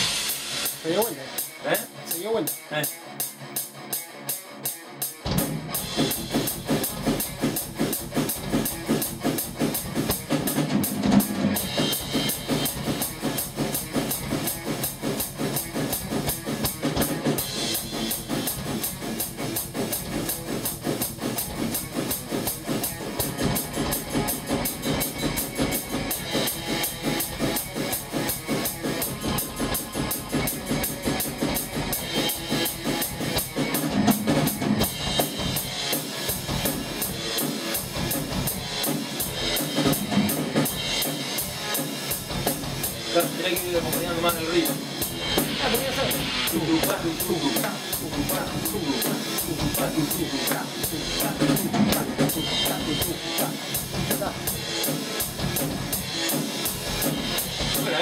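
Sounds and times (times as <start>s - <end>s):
fast metal drum beat: 0.0s - 58.0s.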